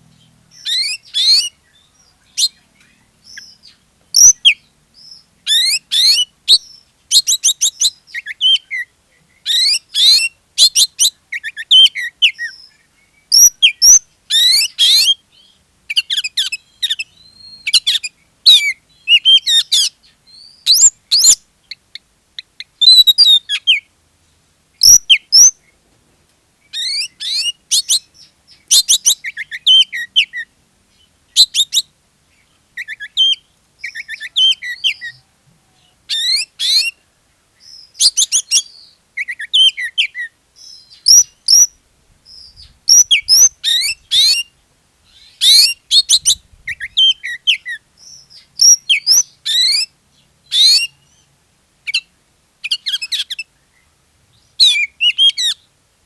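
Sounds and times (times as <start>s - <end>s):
songbird chirps trills and whistles: 0.0s - 25.9s, 26.6s - 55.8s.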